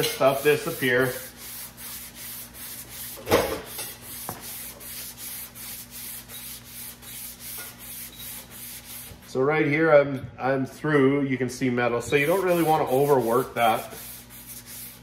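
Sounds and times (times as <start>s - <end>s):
sandpaper rubbing by hand: 0.0s - 9.4s, 12.1s - 15.0s.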